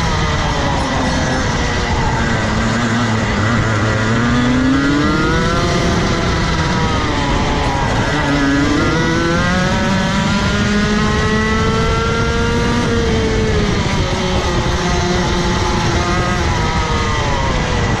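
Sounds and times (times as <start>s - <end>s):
kart engine at full throttle: 0.0s - 18.0s
wind and road noise: 0.0s - 18.0s.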